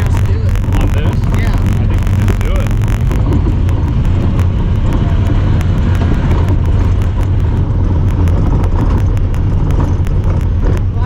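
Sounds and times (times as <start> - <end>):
fast ticking clicks: 0.0 - 11.0
vehicle engine droning: 0.0 - 11.0.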